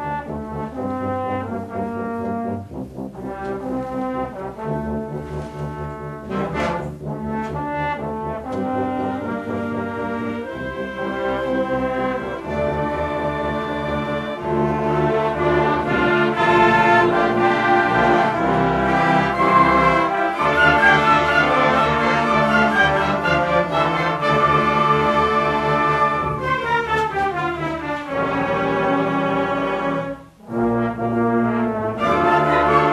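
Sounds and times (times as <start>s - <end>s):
brass-led instrumental music: 0.0s - 32.9s.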